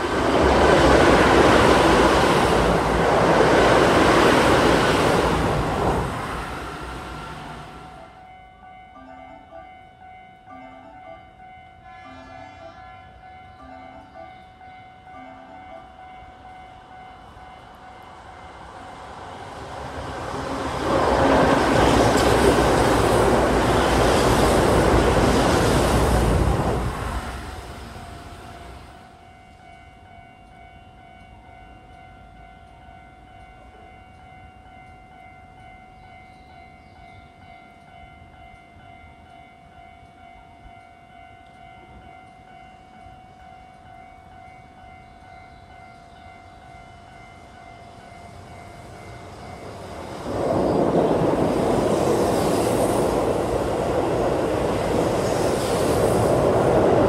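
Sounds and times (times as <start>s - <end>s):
electric train passing at speed: 0.0s - 57.0s.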